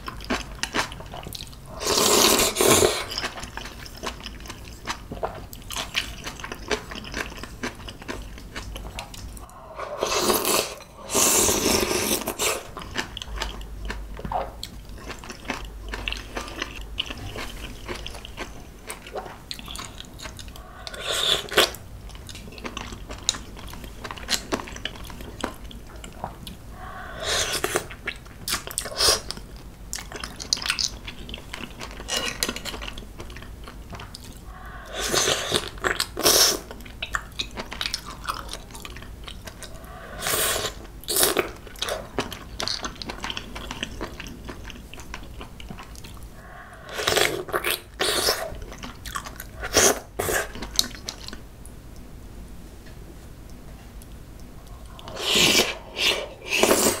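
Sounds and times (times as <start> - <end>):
wet chewing of clams: 0.0 - 51.4.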